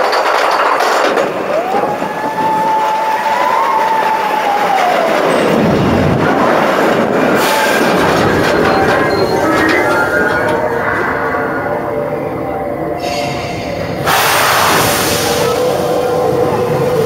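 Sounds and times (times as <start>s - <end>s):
roller coaster rushing and rumbling: 0.0s - 17.0s
roller coaster whine: 0.0s - 17.0s.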